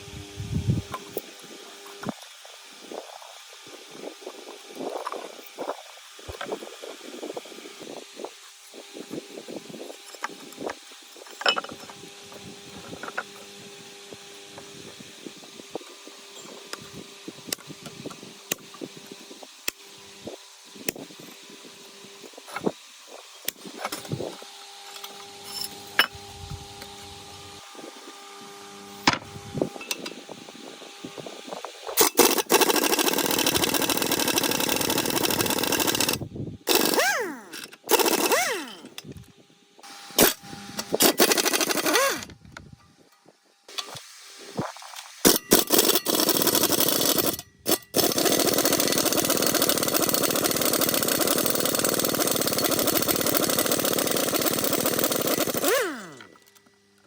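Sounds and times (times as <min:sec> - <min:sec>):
loud power tool running: 0:00.0 - 0:42.6, 0:45.2 - 0:56.7.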